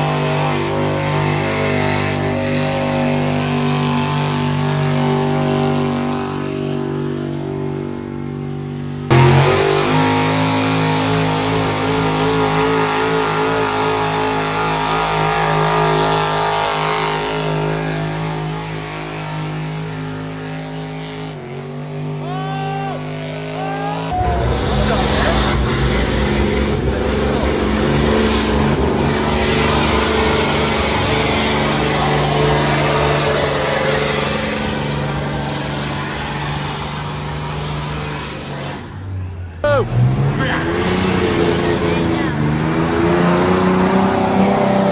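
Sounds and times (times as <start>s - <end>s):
vehicle engine at full throttle: 0.0s - 44.9s.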